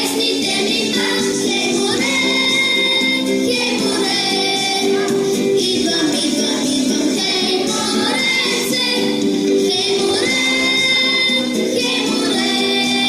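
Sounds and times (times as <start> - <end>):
children singing pop song: 0.0 - 13.0
instrumental backing track: 0.0 - 13.0.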